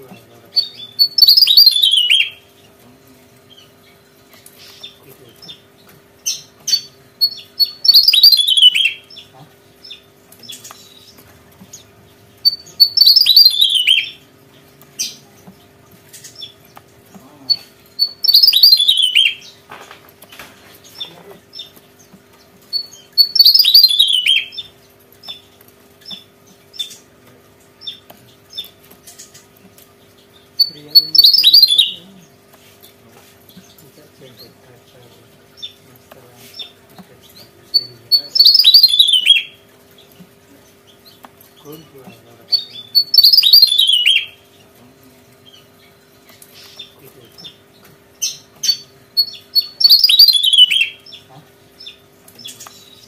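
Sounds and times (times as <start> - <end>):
bird chip notes: 0.0 - 53.0
bird song phrases: 0.0 - 53.0.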